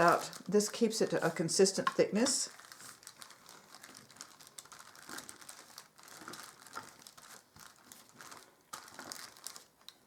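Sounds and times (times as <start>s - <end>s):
parchment paper crinkling: 0.0s - 10.0s.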